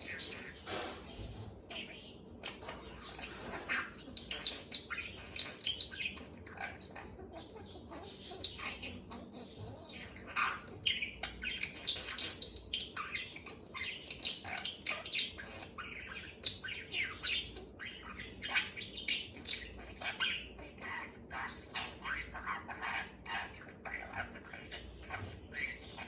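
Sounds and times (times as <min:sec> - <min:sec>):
budgerigar chattering: 0:00.0 - 0:26.0.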